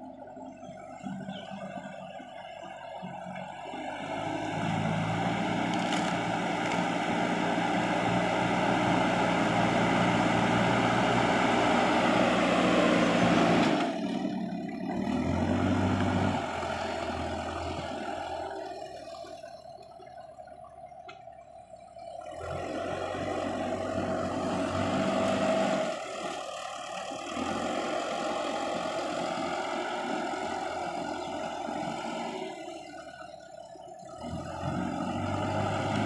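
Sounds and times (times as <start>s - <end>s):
diesel engine working hard: 0.0s - 36.0s.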